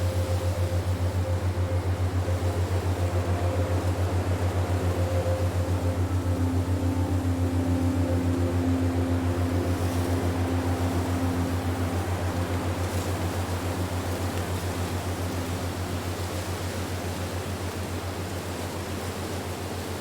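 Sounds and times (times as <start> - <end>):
faint held high tones: 0.0 - 17.1
pulsing low humming drone: 0.0 - 20.0.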